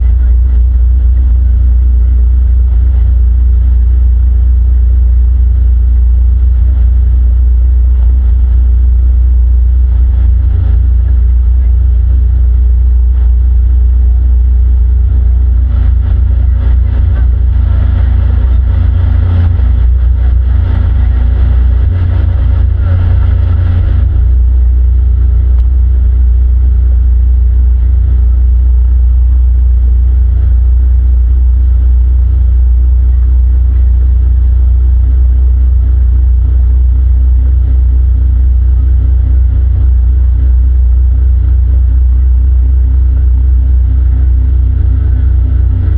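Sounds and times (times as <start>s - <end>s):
motorboat engine rumbling: 0.0s - 45.9s.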